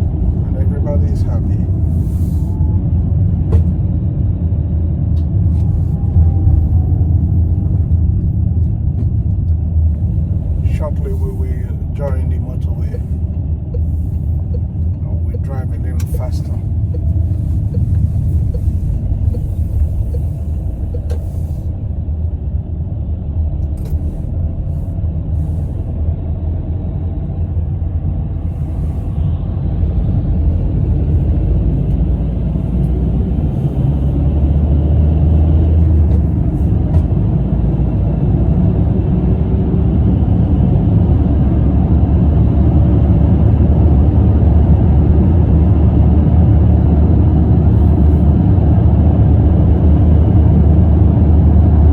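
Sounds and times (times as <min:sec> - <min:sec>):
car rumbling on road: 0:00.0 - 0:51.9.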